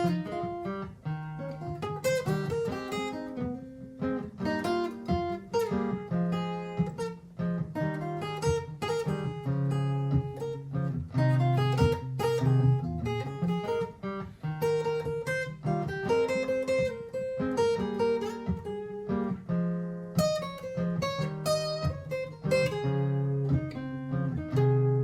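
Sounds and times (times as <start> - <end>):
acoustic guitar picked notes: 0.0 - 25.0
looped low guitar backing: 0.0 - 25.0.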